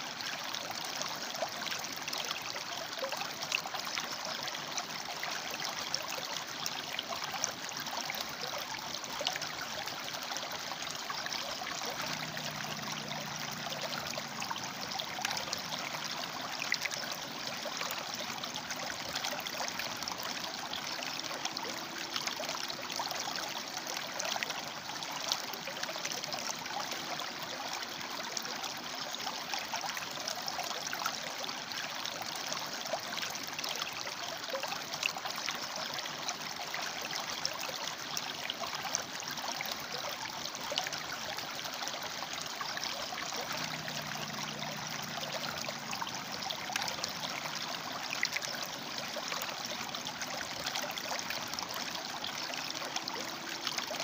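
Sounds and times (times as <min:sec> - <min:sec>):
river water flowing over rocks: 0:00.0 - 0:54.0.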